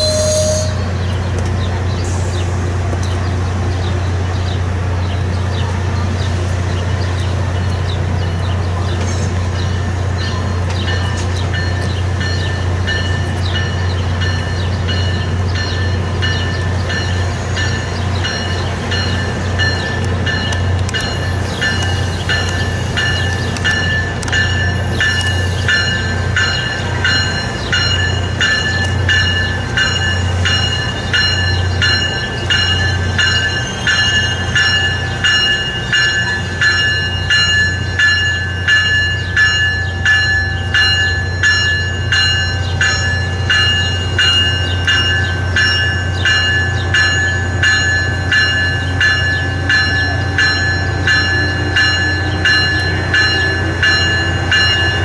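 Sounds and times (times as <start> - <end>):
bell ringing: 0.0 - 0.9, 10.2 - 55.0
train humming: 0.0 - 55.0.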